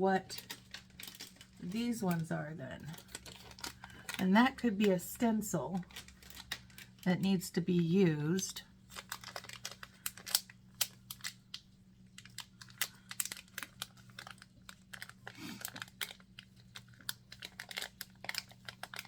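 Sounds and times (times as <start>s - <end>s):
wrappers crinkling: 0.0s - 19.0s
small items clicking and tapping: 0.2s - 5.0s, 5.7s - 7.1s, 8.9s - 19.0s.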